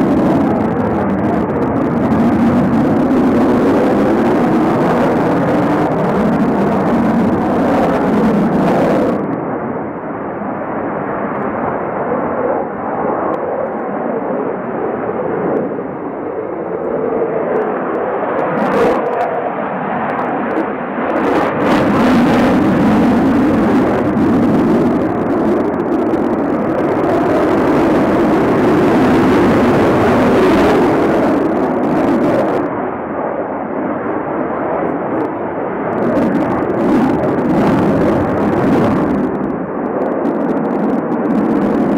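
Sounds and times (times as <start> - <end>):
jet engines rushing overhead: 0.0 - 41.9.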